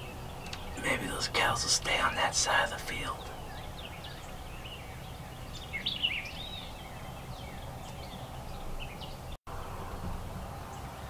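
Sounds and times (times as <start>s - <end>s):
songbirds chirping and whistling: 0.0s - 11.0s
steady low background noise: 0.0s - 11.0s.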